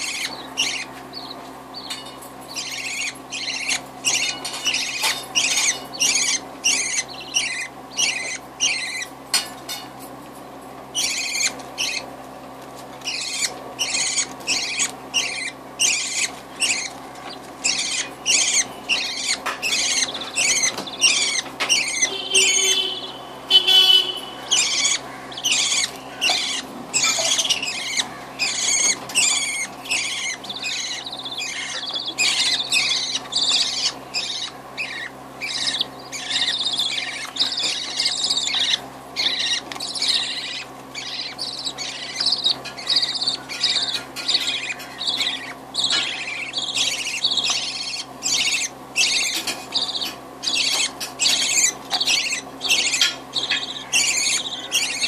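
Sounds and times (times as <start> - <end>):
budgerigars chirping: 0.0 - 9.1, 10.9 - 12.1, 13.0 - 55.0.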